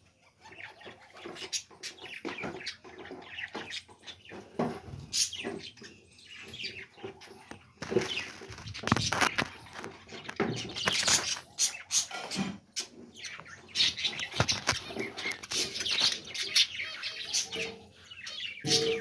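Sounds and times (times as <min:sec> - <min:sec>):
budgerigars chattering: 0:00.2 - 0:19.0.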